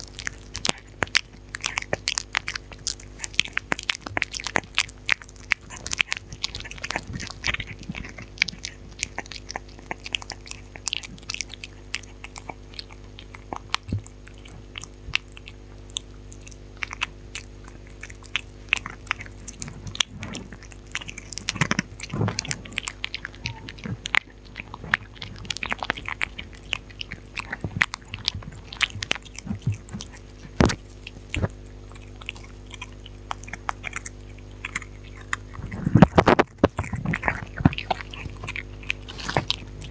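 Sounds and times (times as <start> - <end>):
dog crunching food: 0.0 - 39.9.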